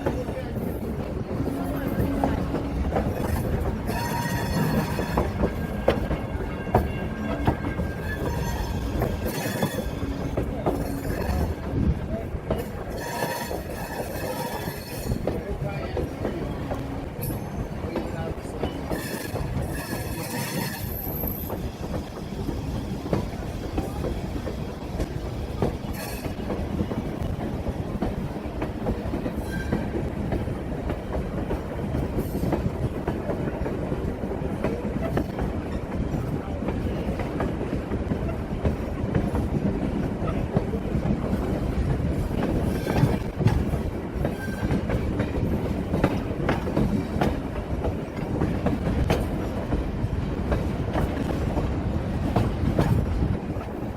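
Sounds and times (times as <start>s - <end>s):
clickety-clack over rail joints: 0.0s - 53.9s
train wheels rumbling on rail: 0.0s - 53.9s.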